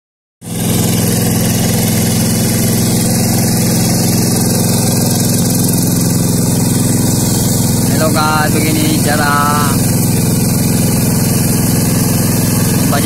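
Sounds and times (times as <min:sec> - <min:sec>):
diesel engine running: 0:00.4 - 0:13.0.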